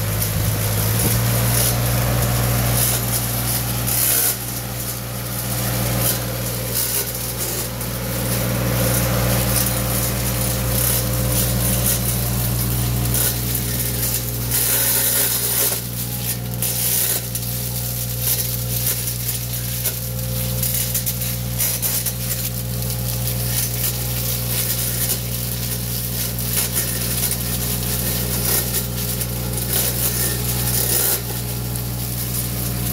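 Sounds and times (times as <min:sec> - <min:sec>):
hedge cutter crackling through twigs: 0:00.0 - 0:32.9
loader engine running: 0:00.0 - 0:32.9.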